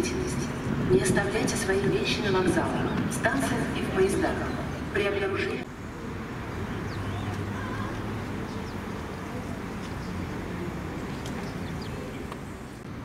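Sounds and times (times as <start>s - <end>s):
sparrows chirping: 2.2s - 12.8s.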